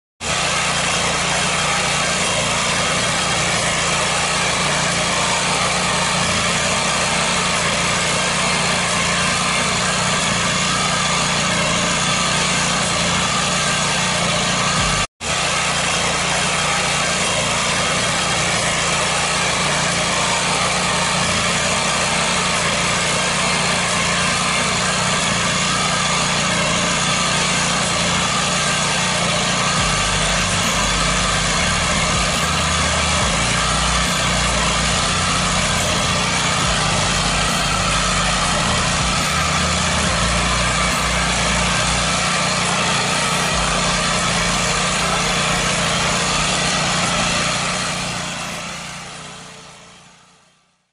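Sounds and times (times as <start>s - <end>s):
small engine running: 0.2s - 50.9s.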